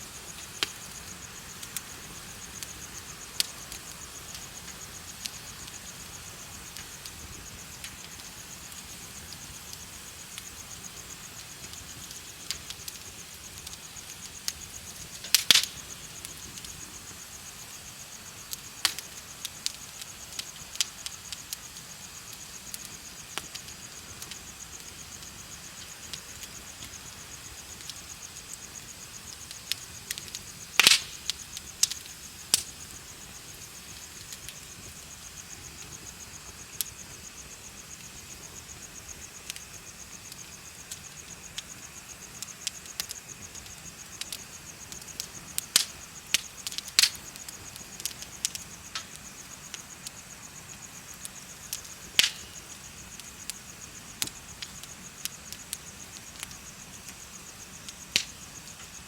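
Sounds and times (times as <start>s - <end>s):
bonfire crackling and popping: 0.0s - 59.0s
insects chirping: 0.0s - 59.0s.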